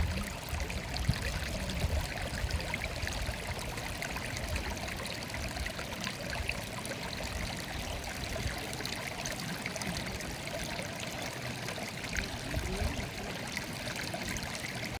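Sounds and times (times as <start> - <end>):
stream murmuring: 0.0 - 15.0
water gurgles: 0.0 - 15.0.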